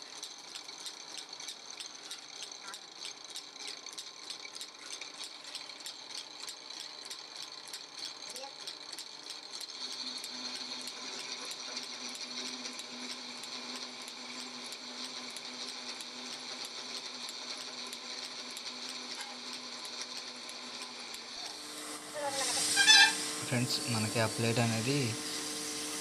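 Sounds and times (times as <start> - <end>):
drill press boring through steel: 0.0 - 26.0.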